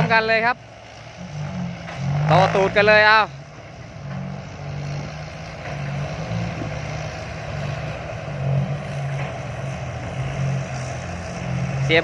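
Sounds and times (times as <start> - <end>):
dump truck engines under load: 0.0 - 12.0.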